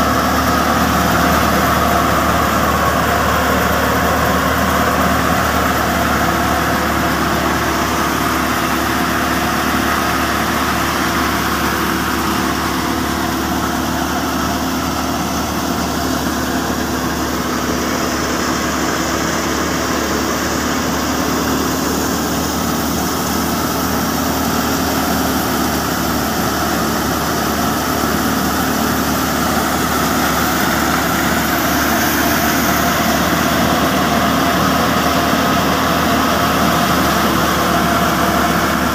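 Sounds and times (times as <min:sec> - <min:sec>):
tractor driving grain thresher: 0:00.0 - 0:38.9.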